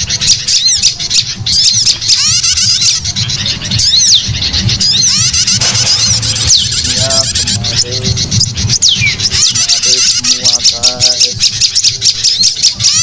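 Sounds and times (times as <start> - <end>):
harsh bird calls: 0.0 - 13.0
songbirds chirping: 0.0 - 13.0
steady low hum: 0.0 - 13.0.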